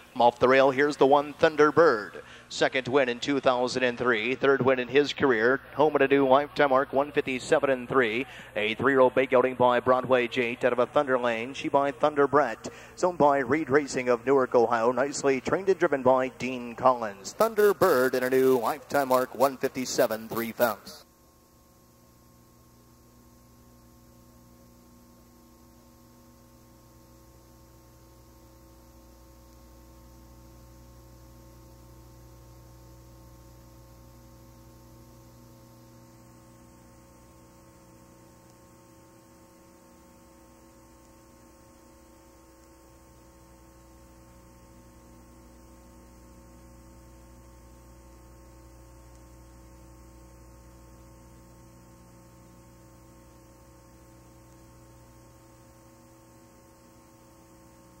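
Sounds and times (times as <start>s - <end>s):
faint mains hum: 0.0s - 58.0s.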